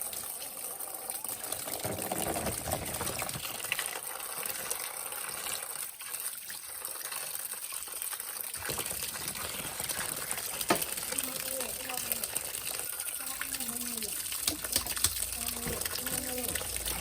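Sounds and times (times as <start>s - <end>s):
water gushing from a tap: 0.0s - 17.0s.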